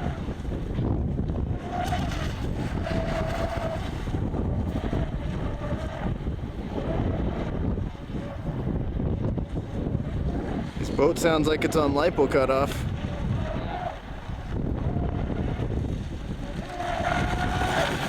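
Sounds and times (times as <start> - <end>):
electric boat motor whine: 0.0 - 18.0
wind noise on microphone: 0.0 - 18.0.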